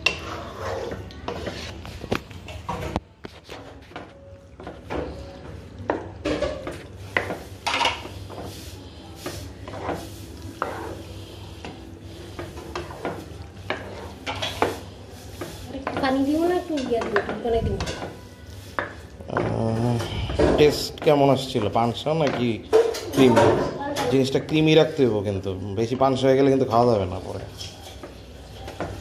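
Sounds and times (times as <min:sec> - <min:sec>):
spatula stirring macaroni in pan: 0:00.0 - 0:23.3.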